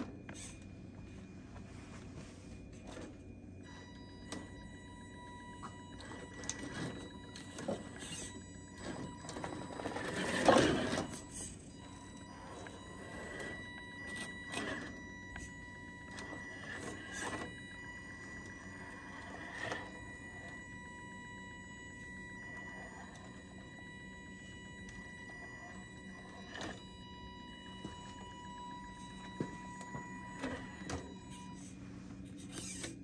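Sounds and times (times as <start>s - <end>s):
electric motor whine: 3.0s - 33.0s.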